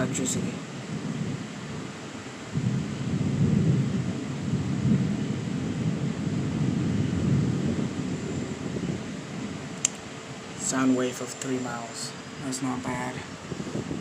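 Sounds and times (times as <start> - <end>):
thunder rumbling: 0.0 - 11.2, 12.0 - 14.0.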